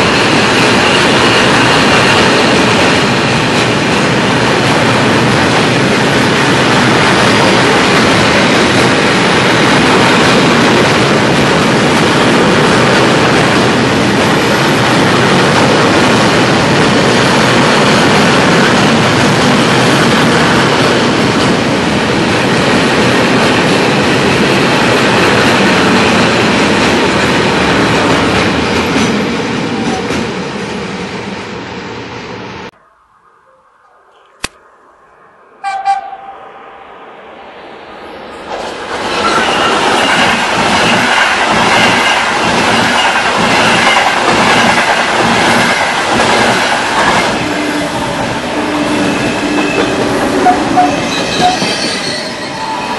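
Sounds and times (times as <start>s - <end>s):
train wheels rumbling on rails: 0.0s - 31.8s, 37.3s - 52.9s.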